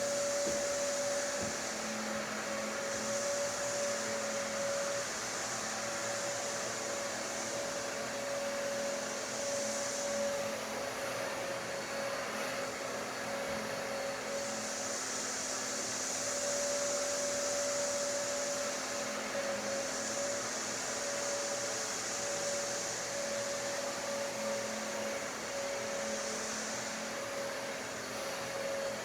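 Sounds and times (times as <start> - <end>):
ceiling fan whirring: 0.0 - 29.0.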